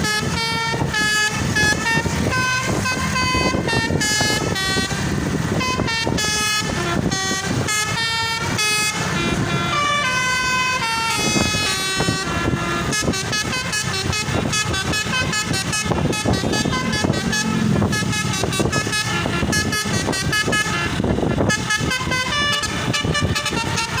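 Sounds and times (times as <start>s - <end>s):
multi-tone air horn tooting a tune: 0.0s - 24.0s.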